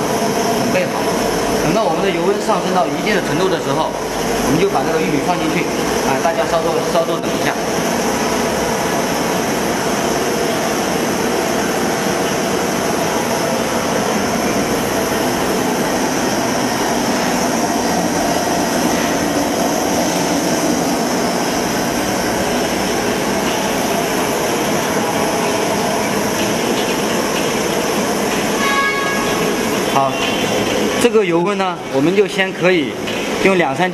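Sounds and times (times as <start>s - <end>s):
gas burner burning: 0.0s - 33.9s.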